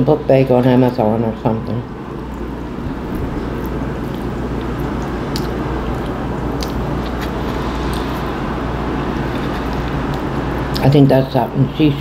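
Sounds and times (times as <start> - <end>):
steady rushing background noise: 1.8 - 12.0.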